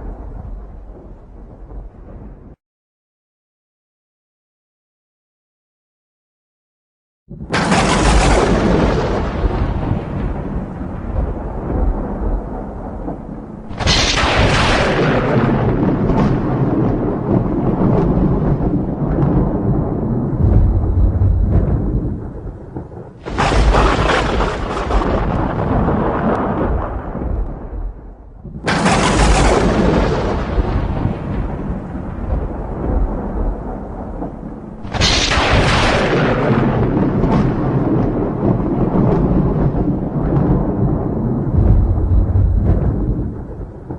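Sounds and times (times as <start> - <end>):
loud thunderclap: 0.0 - 2.6, 7.3 - 43.9
thunder rumbling: 0.0 - 2.6, 7.3 - 43.9
rain: 7.4 - 43.9.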